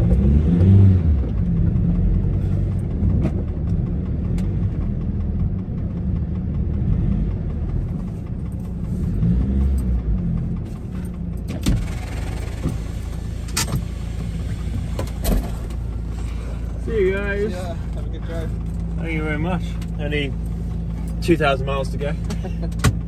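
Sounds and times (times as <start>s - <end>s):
van engine idling: 0.0s - 23.0s.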